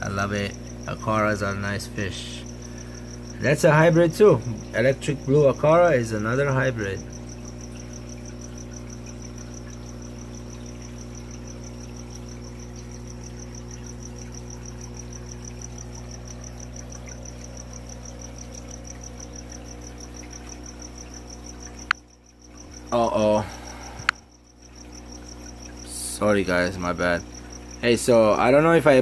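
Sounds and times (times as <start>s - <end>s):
aquarium equipment humming: 0.0s - 29.0s.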